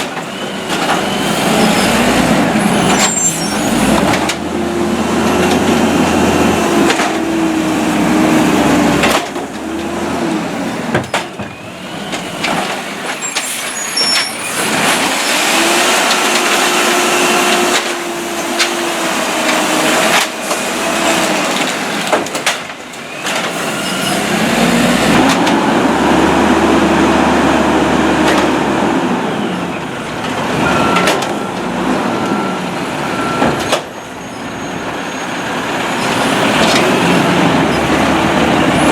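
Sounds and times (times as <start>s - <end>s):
garbage truck engine revving: 0.0s - 33.9s, 34.5s - 38.9s.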